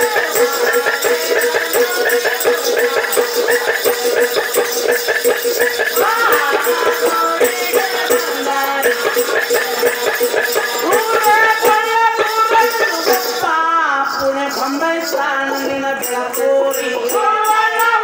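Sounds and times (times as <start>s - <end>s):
folk singing: 0.0s - 18.0s
shaken rattle percussion: 0.0s - 18.0s.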